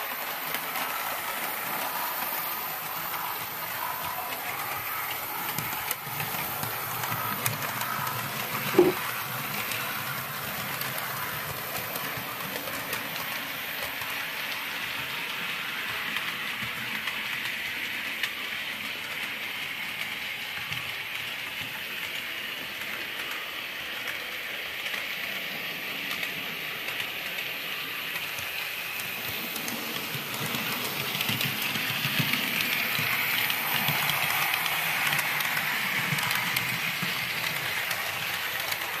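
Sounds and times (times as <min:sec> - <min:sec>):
model locomotive motor whirring: 0:00.0 - 0:39.0
small wheels clicking over rail joints: 0:00.1 - 0:39.0.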